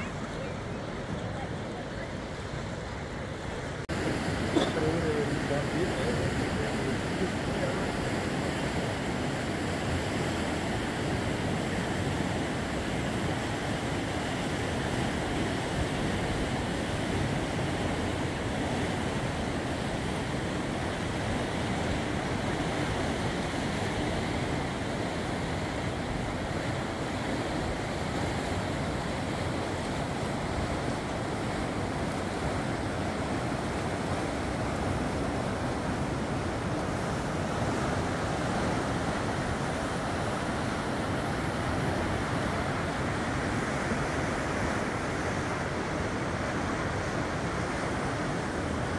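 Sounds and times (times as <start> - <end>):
fast water rushing under bridge: 0.0 - 48.9.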